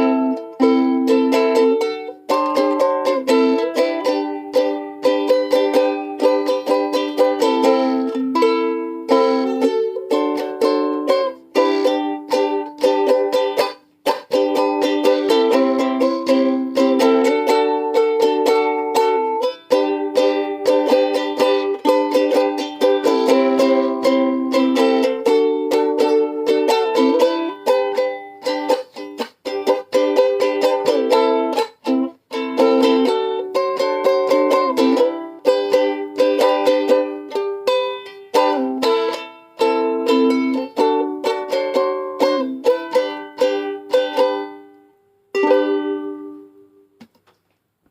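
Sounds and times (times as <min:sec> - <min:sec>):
ukulele strumming chords: 0:00.0 - 0:47.2.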